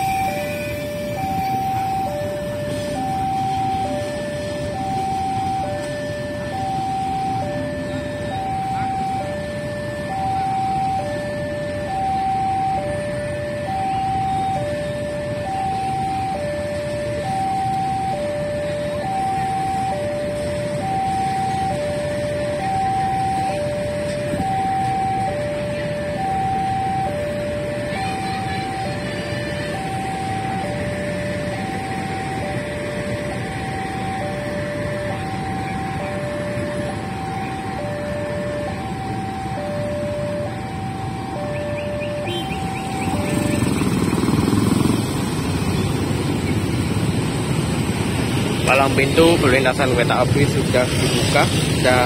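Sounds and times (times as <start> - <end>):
low traffic rumble: 0.0 - 52.0.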